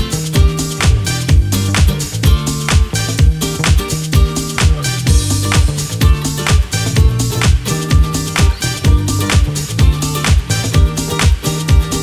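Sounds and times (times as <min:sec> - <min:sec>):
dance music: 0:00.0 - 0:12.0.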